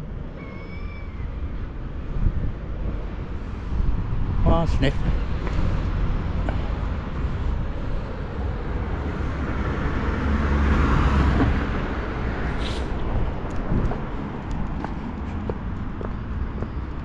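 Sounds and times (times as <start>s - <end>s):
steady outdoor rumble: 0.0s - 17.0s
vehicle passing: 3.0s - 17.0s.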